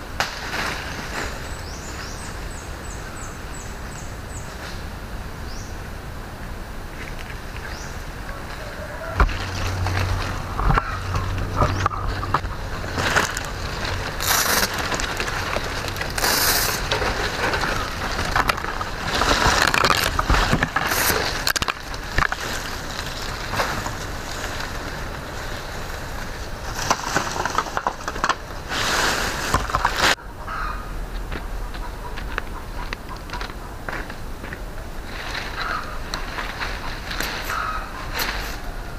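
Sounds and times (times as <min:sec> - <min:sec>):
palm fronds rustling and scraping: 0:00.0 - 0:05.9, 0:06.5 - 0:38.9.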